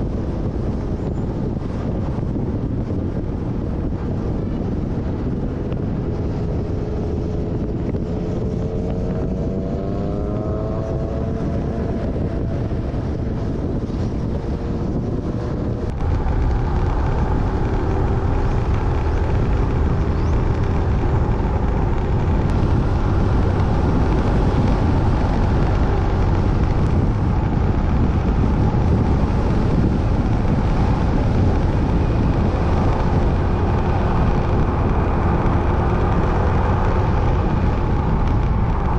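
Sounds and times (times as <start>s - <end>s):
motorbike engine running: 0.0s - 38.9s
wind noise on microphone: 0.0s - 38.9s.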